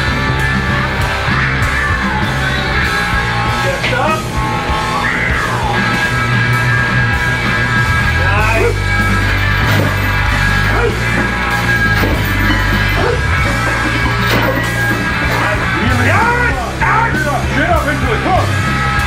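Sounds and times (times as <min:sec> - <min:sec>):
drum beat: 0:00.0 - 0:19.0
loud rock music: 0:00.0 - 0:19.0
yelled vocals: 0:00.0 - 0:19.0.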